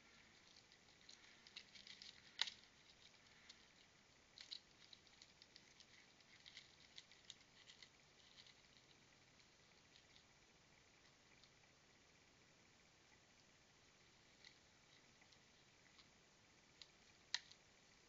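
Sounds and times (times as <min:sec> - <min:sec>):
raccoon scratching and clicking: 0:00.0 - 0:11.6, 0:13.4 - 0:18.0.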